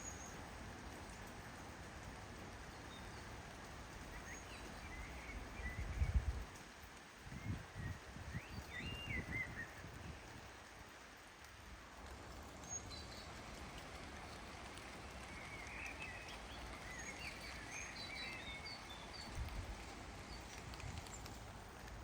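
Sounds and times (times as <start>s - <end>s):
small birds chirping: 0.0s - 1.7s, 2.3s - 11.4s, 12.2s - 22.0s
steady rain falling: 0.0s - 22.0s.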